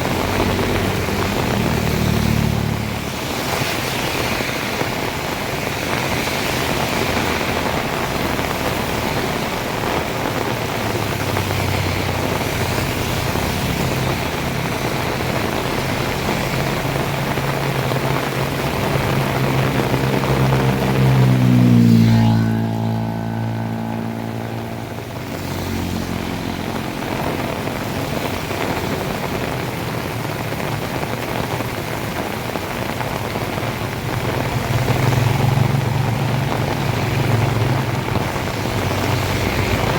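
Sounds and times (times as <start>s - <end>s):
heavy rain: 0.0s - 39.9s
vehicle engine passing: 0.0s - 39.9s.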